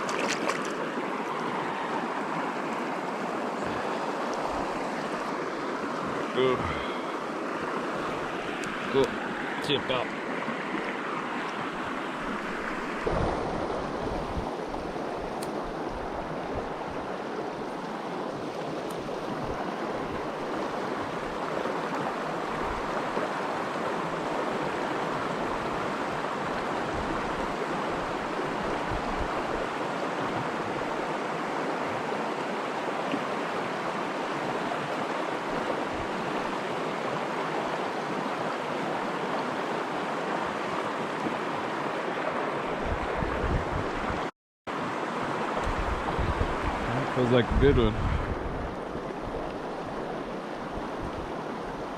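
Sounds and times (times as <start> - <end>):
river rushing over rocks: 0.0 - 51.9.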